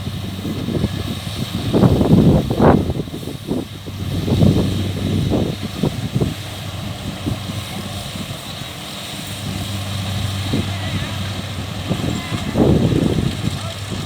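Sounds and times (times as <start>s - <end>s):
combine harvester diesel engine: 0.0s - 14.0s
uneven rumbling: 0.0s - 14.0s.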